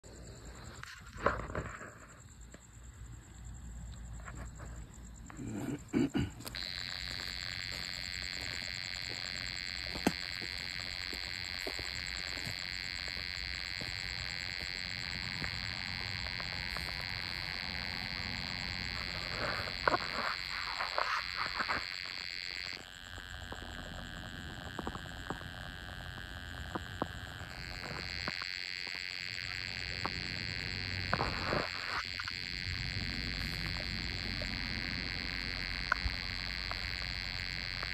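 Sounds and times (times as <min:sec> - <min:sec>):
animal high-pitched buzzing drone: 0:05.2 - 0:37.9.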